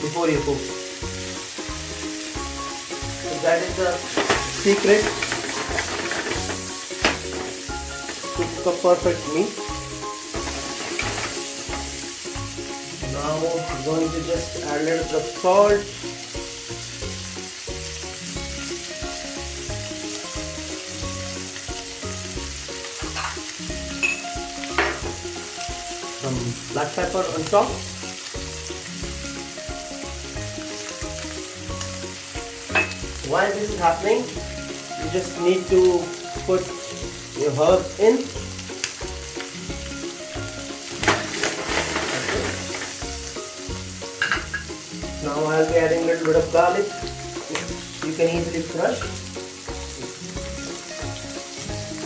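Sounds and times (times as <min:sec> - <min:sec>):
background music with bass notes: 0:00.0 - 0:52.0
steak sizzling in a pan: 0:00.0 - 0:52.0.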